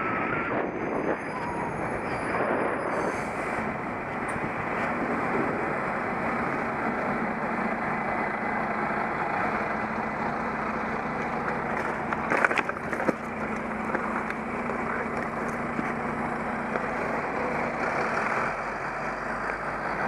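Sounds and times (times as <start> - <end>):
road and traffic noise: 0.0 - 20.0.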